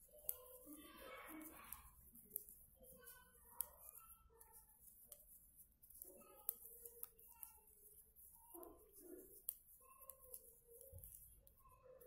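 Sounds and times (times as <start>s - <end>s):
knitting needles clicking: 0.0s - 12.0s.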